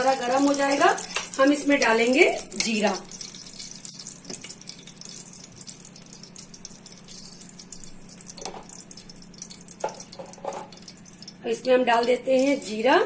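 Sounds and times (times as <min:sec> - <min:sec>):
ghee crackling and spitting: 0:00.0 - 0:11.5
steady low hum: 0:00.0 - 0:13.0.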